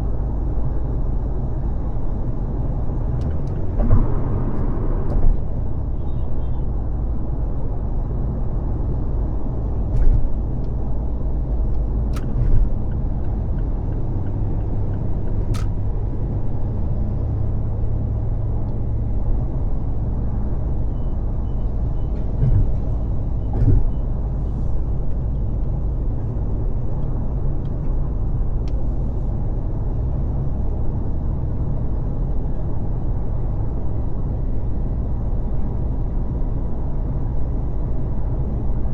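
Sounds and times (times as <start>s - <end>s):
tyre and road noise: 0.0s - 20.8s, 21.7s - 35.0s.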